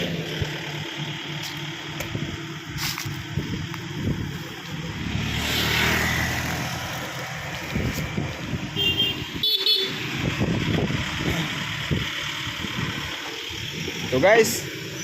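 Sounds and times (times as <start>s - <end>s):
motor vehicles passing: 0.0s - 15.0s.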